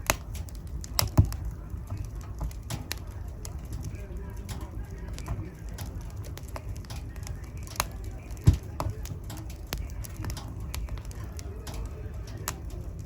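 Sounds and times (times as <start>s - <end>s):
wood fire burning: 0.0s - 13.0s.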